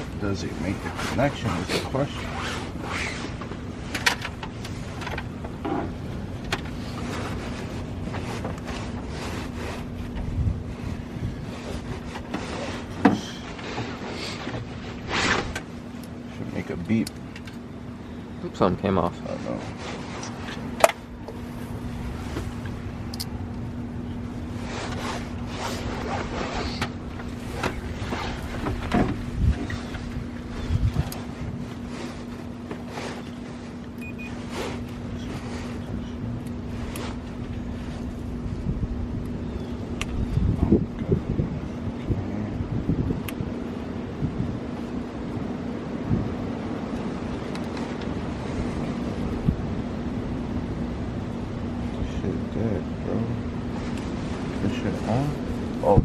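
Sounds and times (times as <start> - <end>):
wind rumble on microphone: 0.0 - 16.5, 17.6 - 56.0
low mechanical hum: 0.0 - 56.0.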